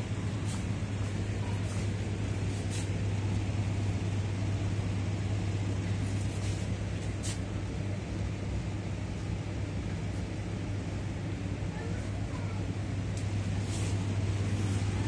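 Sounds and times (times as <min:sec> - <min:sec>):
low hum of shop interior: 0:00.0 - 0:15.0.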